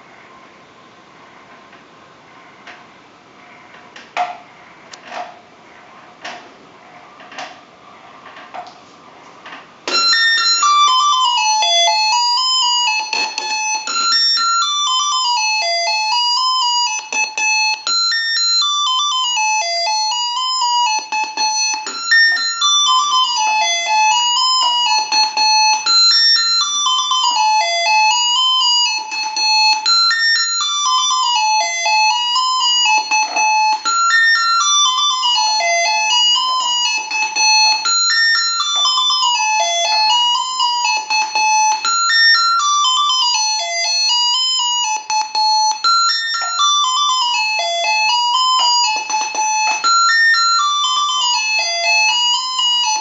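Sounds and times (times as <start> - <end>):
electronic alarm beeping tune: 9.9 - 53.0.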